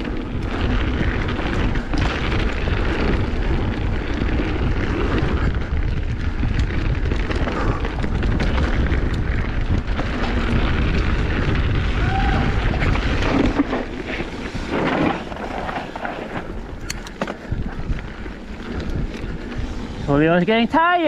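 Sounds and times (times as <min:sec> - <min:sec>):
bike knocking and rattling: 0:00.0 - 0:21.0
bike tyre noise: 0:00.0 - 0:21.0
wind buffeting a microphone: 0:00.0 - 0:21.0.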